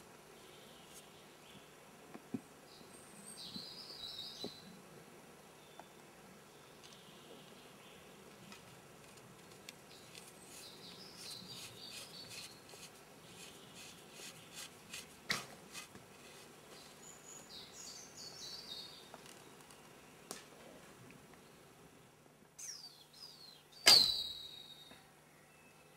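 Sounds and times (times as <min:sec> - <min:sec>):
birds singing faintly: 0:00.0 - 0:15.2, 0:16.1 - 0:25.9.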